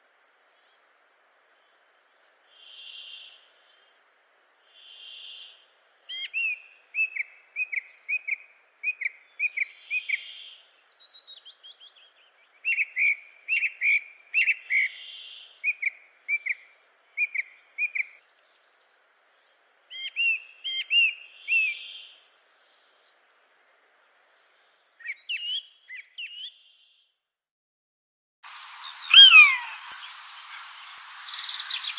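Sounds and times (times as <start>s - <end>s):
faint steady hiss: 0.0s - 27.3s, 28.4s - 31.9s
songbird chirping: 0.0s - 27.3s, 28.7s - 31.9s.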